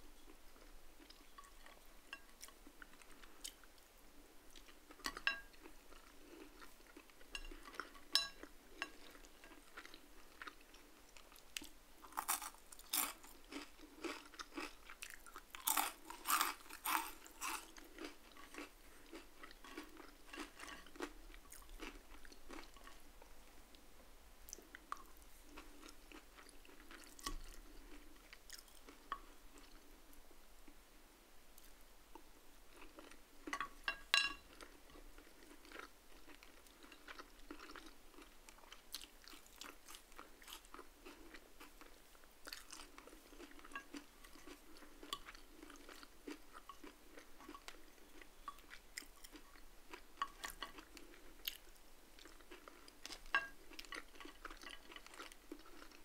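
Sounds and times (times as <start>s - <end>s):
chewing and crunching food: 0.0s - 23.4s, 24.5s - 30.1s, 31.6s - 56.0s.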